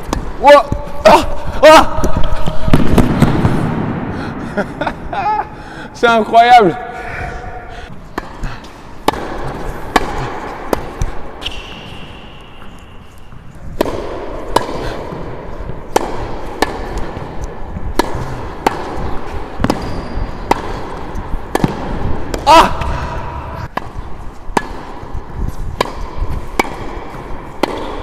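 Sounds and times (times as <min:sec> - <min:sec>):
tennis balls bouncing on court: 0:00.0 - 0:04.0, 0:07.9 - 0:28.0
tennis balls struck by rackets: 0:00.0 - 0:04.1, 0:07.9 - 0:28.0.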